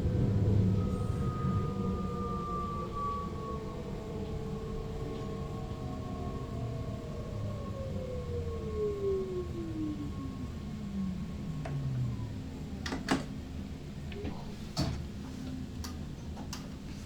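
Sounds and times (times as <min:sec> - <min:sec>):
electric train motor whine: 0:00.0 - 0:14.3.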